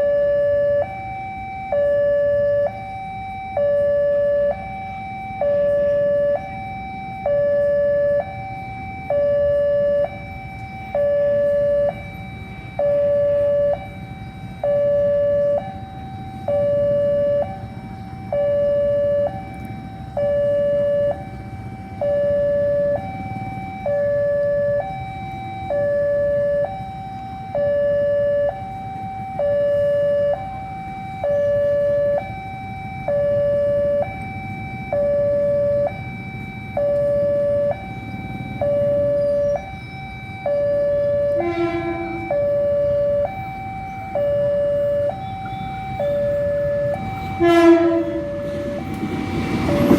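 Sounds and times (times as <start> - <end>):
low engine rumble: 0.0 - 49.9
two-tone level crossing alarm: 0.0 - 49.9.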